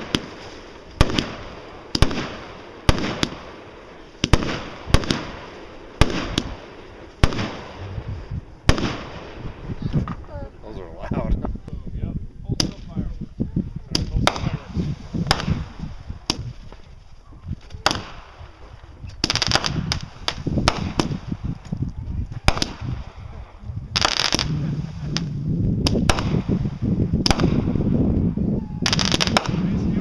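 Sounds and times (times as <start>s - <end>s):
fireworks bangs: 0.0s - 10.6s, 13.8s - 30.0s.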